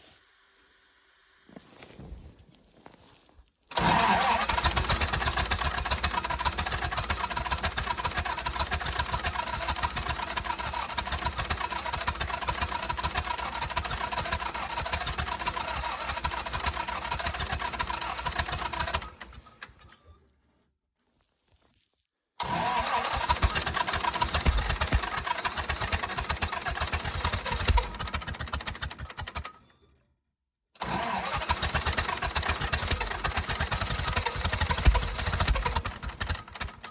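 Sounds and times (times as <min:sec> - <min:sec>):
engine cranking on starter: 0:03.7 - 0:20.3, 0:22.4 - 0:29.9, 0:30.8 - 0:36.9.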